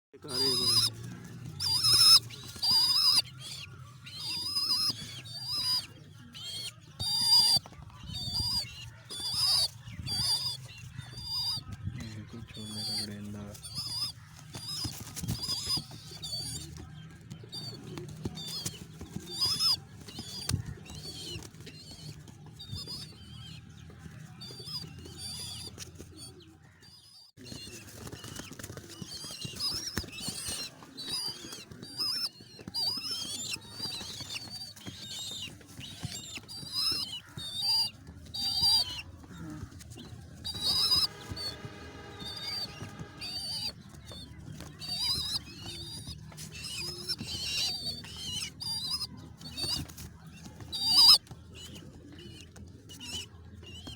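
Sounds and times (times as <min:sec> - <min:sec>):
baby pigeon squeaking: 0:00.2 - 0:53.9.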